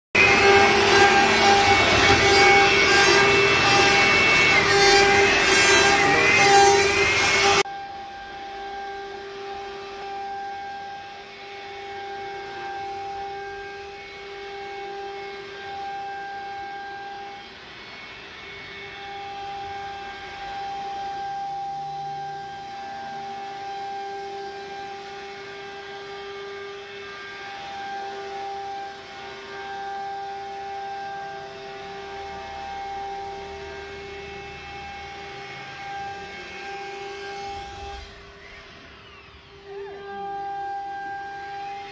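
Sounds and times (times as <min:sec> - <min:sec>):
router spindle whining: 0:00.2 - 0:41.9.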